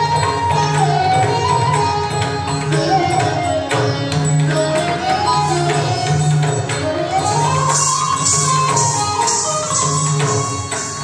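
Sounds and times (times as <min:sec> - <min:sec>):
sharp percussion accents: 0:00.0 - 0:11.0
sliding melody: 0:00.0 - 0:11.0.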